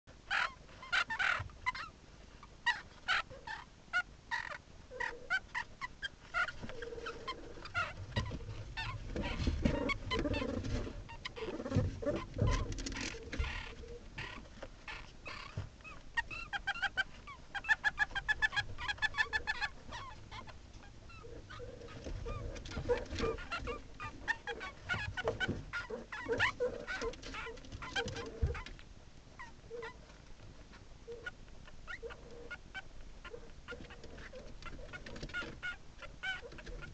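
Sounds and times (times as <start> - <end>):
meerkat pups peeping and chirping: 0.1 - 36.9.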